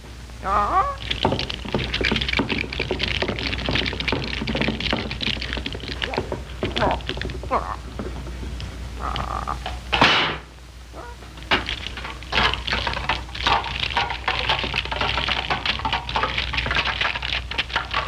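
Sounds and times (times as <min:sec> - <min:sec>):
dense clattering and crackling: 0:00.0 - 0:18.0.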